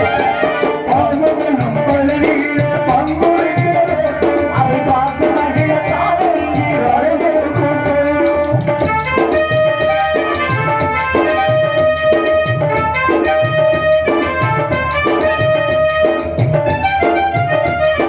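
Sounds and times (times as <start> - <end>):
tabla and drums beating: 0.0 - 18.0.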